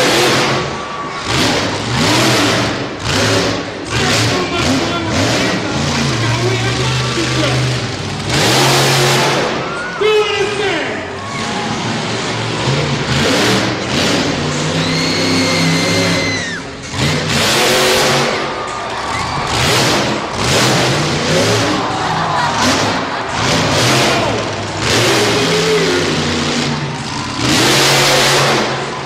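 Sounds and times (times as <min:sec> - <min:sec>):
truck engines revving: 0:00.0 - 0:29.0.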